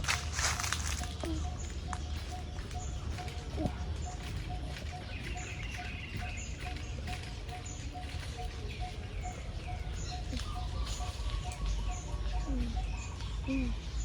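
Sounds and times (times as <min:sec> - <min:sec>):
bird repeating low note: 0:00.0 - 0:14.0
birds chirping: 0:00.0 - 0:14.0.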